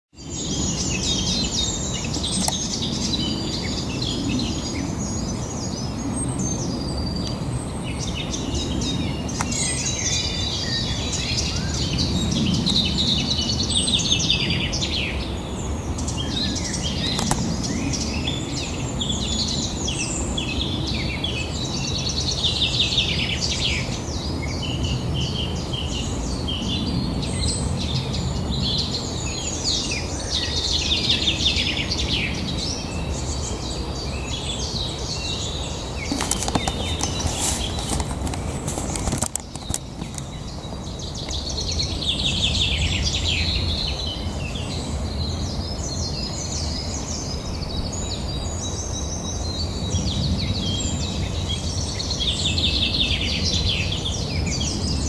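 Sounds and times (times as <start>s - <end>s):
songbirds singing and chirping: 0.1s - 55.0s.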